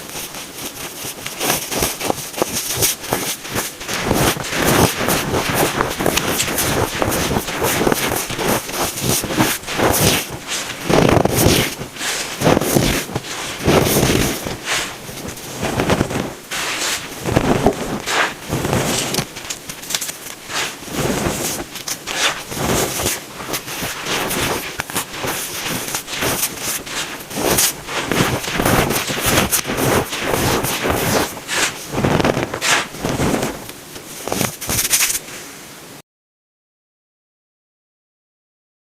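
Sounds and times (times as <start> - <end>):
baking soda crunching: 0.9 - 33.6.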